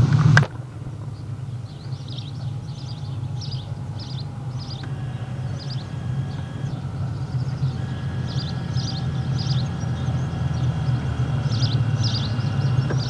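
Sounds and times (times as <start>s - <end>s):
steady low hum: 0.0s - 13.0s
small animal chirping: 1.7s - 13.0s.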